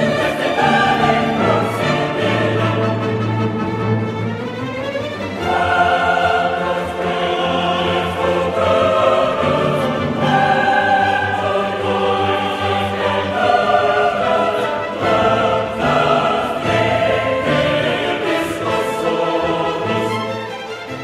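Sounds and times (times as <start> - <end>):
choir singing with orchestra: 0.0 - 21.0.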